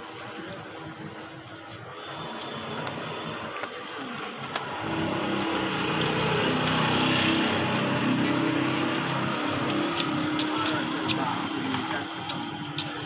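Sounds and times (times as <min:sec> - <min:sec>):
vehicle engine running: 0:01.9 - 0:13.0.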